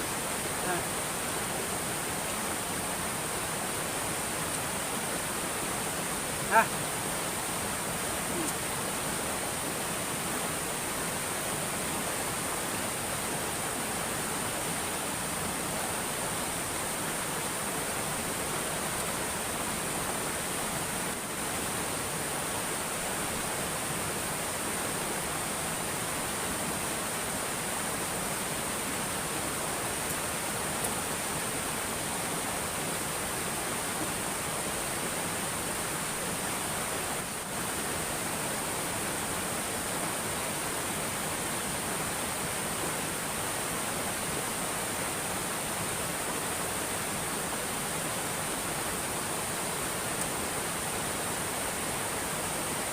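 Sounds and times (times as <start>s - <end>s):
rushing water with high hiss: 0.0s - 52.9s.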